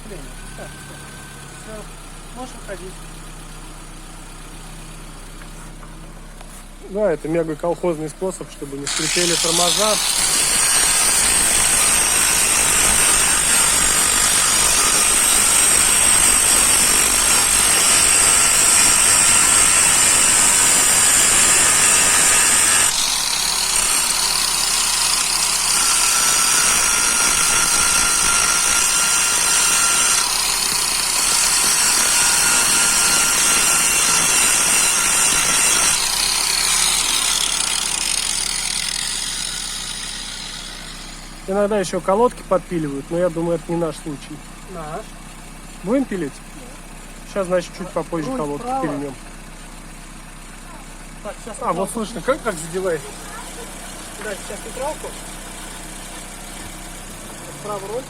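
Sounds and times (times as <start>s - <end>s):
car engine running: 0.0s - 10.7s, 11.4s - 26.3s, 29.5s - 32.2s, 34.0s - 58.0s
tool grinding brake disc: 7.6s - 58.0s.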